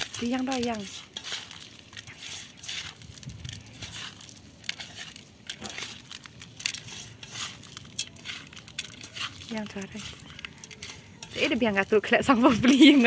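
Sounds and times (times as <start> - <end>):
dry noodles crackling and rustling: 0.0 - 13.0.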